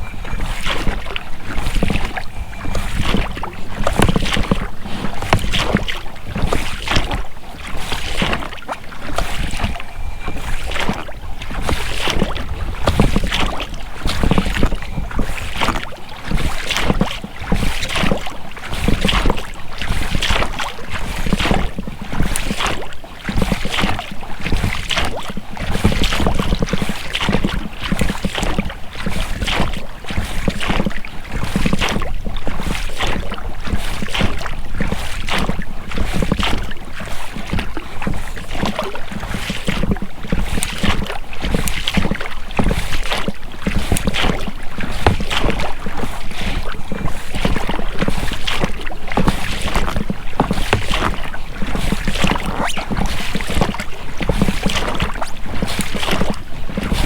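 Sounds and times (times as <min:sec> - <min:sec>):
oars splashing in water: 0:00.0 - 0:57.0
rubber rowlocks working: 0:00.0 - 0:57.0.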